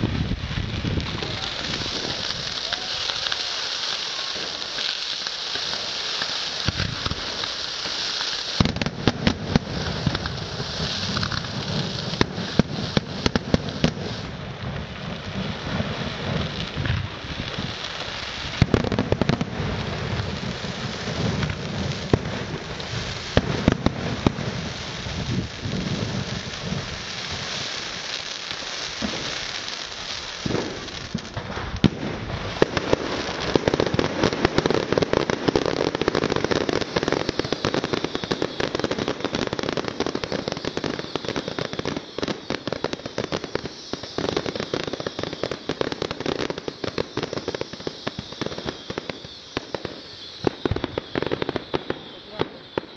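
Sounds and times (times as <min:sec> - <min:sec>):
fireworks crackling: 0:00.0 - 0:52.9
fireworks sharp bangs: 0:00.0 - 0:52.9.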